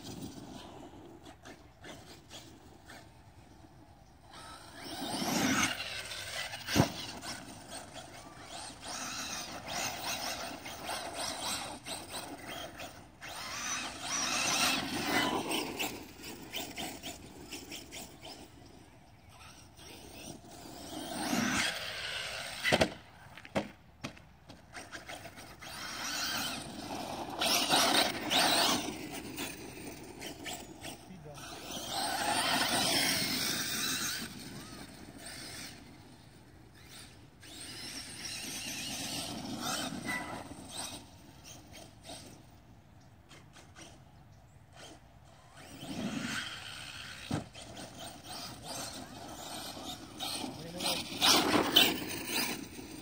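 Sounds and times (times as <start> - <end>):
rc car motor whine: 0.0 - 23.7, 24.5 - 53.0.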